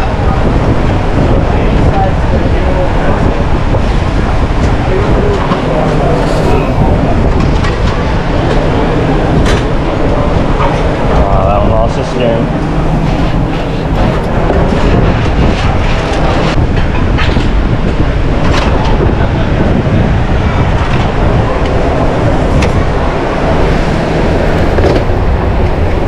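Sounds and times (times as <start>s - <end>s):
busy kitchen rumble: 0.0s - 26.0s.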